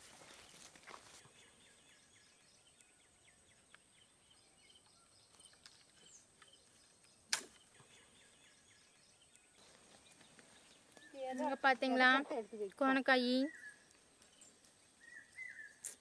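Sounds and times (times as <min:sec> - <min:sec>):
faint ticks and rustles: 0:00.0 - 0:16.0.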